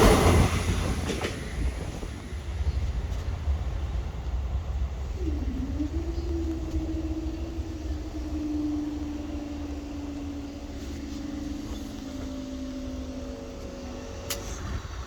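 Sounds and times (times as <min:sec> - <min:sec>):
low rumble: 0:00.0 - 0:15.0
vehicle engine hum: 0:01.8 - 0:15.0.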